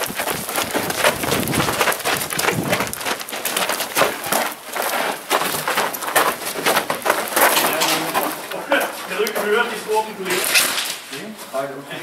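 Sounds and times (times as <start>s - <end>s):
pellets hitting plywood walls: 0.0s - 11.1s
footsteps and gear rattling: 0.0s - 11.6s.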